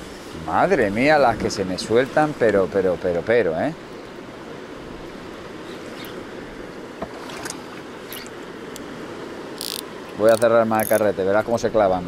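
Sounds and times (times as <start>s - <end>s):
sea water washing: 0.0s - 12.0s
wind: 0.0s - 12.0s.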